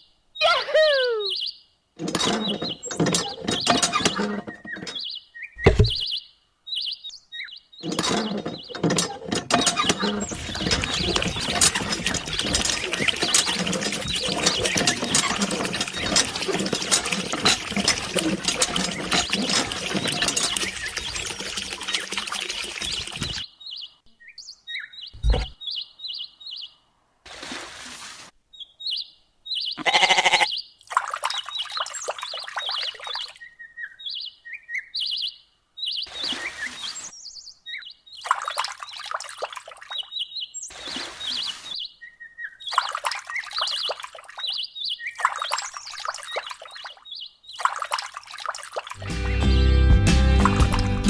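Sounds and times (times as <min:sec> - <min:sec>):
small birds chirping: 0:00.0 - 0:26.8, 0:28.5 - 0:49.6.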